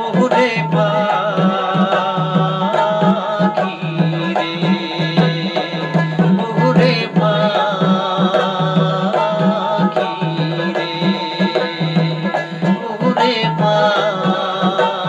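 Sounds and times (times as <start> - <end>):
hand drum beating: 0.0 - 15.0
man singing: 0.0 - 15.0.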